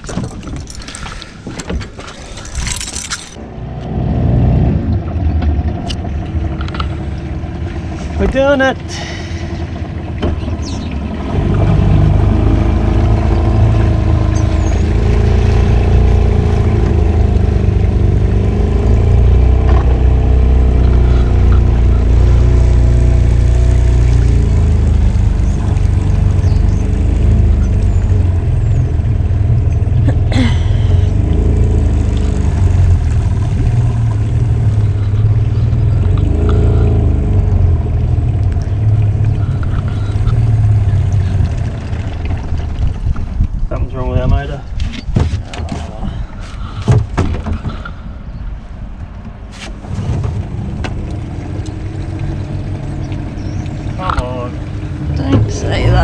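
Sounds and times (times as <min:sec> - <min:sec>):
boat motor rumbling: 0:00.0 - 0:56.0.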